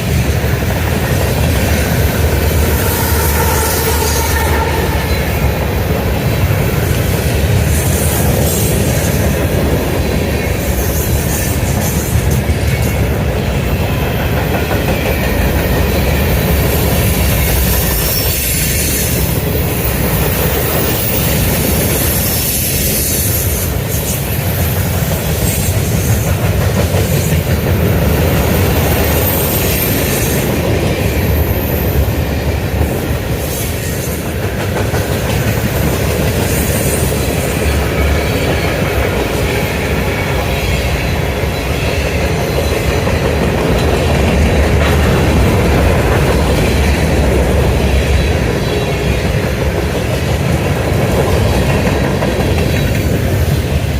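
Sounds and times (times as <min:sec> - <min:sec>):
freight train cars rolling: 0:00.0 - 0:53.9.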